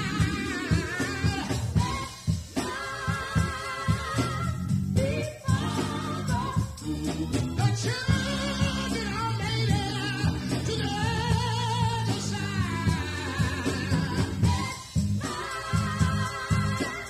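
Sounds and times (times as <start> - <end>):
gospel singing with instruments: 0.0 - 17.0.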